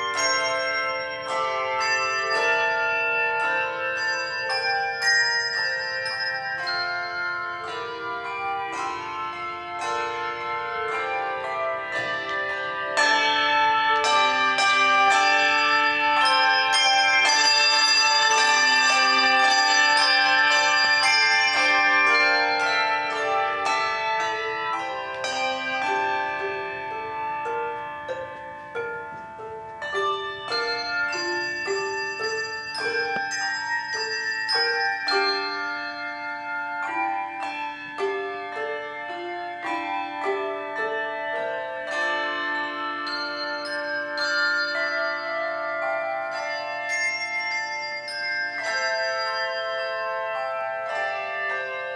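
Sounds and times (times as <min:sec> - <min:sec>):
handbell choir ringing: 0:00.0 - 0:51.9.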